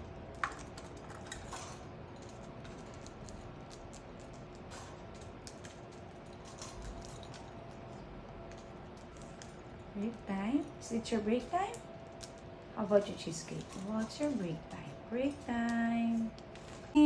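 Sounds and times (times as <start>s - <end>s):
steady faint hum: 0.0s - 17.0s.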